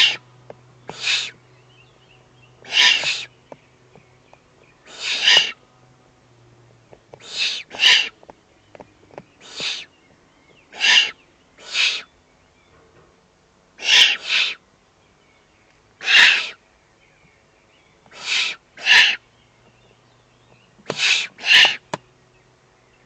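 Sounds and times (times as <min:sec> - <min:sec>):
owl chicks rasping begging calls: 0:00.0 - 0:05.7, 0:06.9 - 0:12.6, 0:13.7 - 0:23.0.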